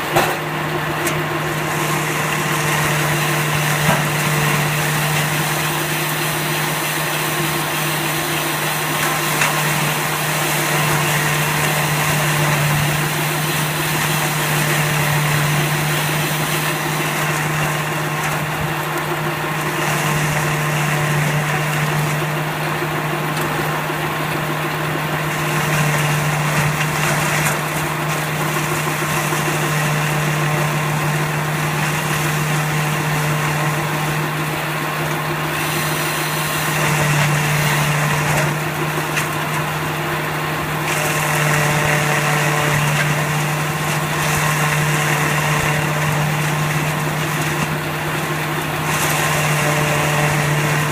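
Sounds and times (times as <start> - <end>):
baler machine humming: 0.0 - 50.9.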